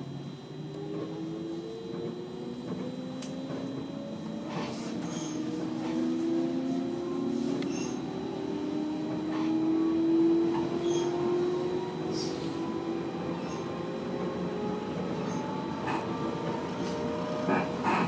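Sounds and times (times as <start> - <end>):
electric train motor whine: 0.0 - 18.0
train rumble: 0.0 - 18.0.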